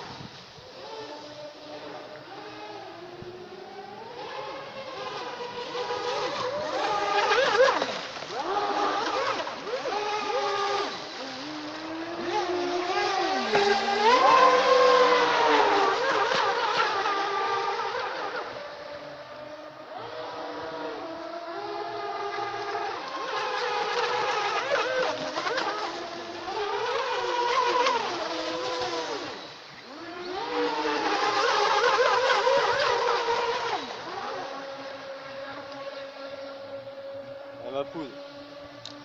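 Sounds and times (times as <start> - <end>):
electric motor boats whining: 0.0 - 39.0.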